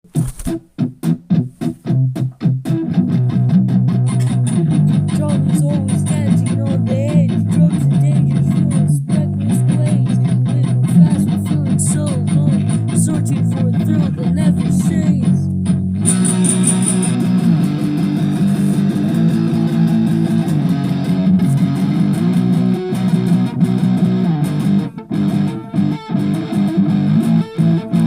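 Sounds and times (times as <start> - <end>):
guitar and bass music: 0.0 - 28.0.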